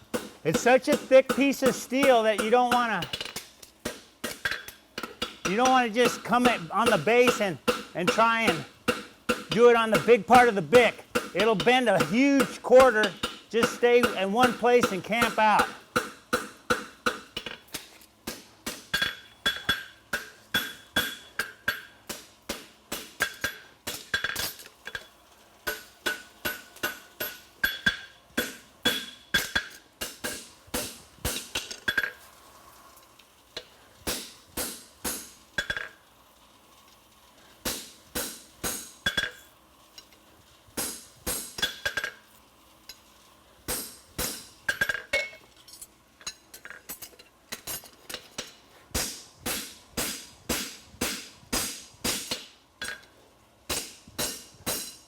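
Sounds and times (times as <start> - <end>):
hammer striking steel on anvil: 0.1 - 32.2, 34.1 - 36.0, 37.6 - 39.4, 40.8 - 42.2, 43.7 - 45.4, 49.0 - 53.1, 53.7 - 55.0.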